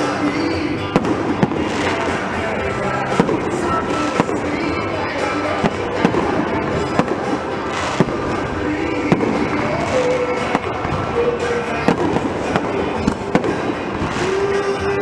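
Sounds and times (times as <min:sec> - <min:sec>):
fireworks bangs: 0:00.0 - 0:15.0
fireworks crackling: 0:00.0 - 0:15.0
music playing: 0:00.0 - 0:15.0.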